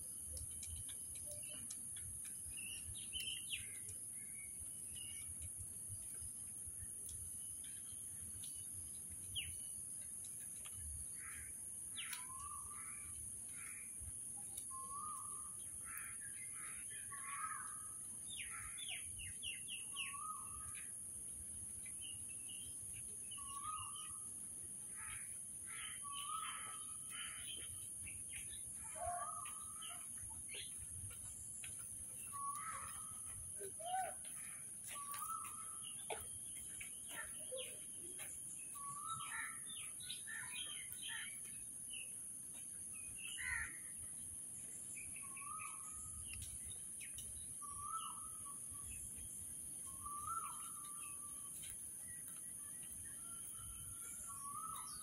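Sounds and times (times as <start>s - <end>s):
birds chirping: 0.0s - 21.0s, 21.6s - 42.2s, 42.9s - 55.0s
steady high-pitched hiss: 0.0s - 55.0s.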